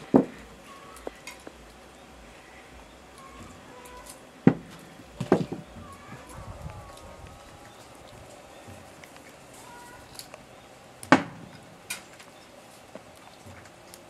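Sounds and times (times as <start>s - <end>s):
low steady background: 0.0s - 14.0s.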